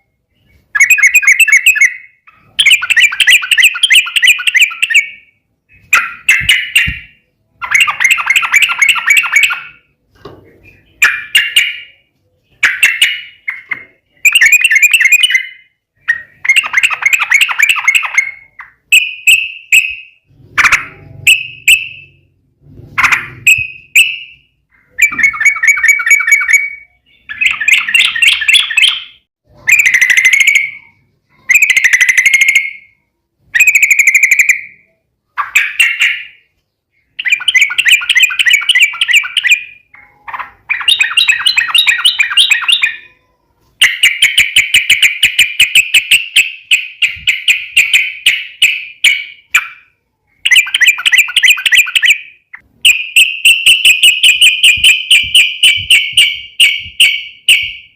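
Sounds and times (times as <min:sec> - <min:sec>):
bird chattering song: 0:00.0 - 0:57.9.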